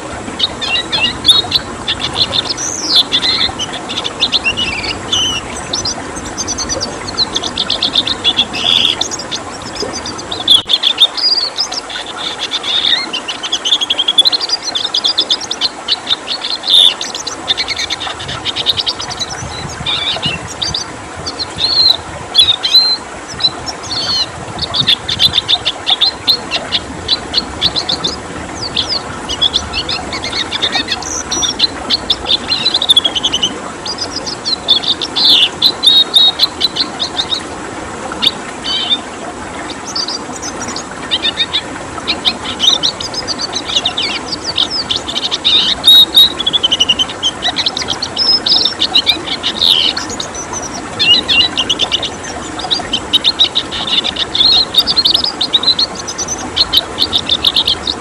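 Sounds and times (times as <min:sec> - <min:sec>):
bird twittering song: 0:00.0 - 0:37.5, 0:38.2 - 0:58.0
running water: 0:00.0 - 0:58.0.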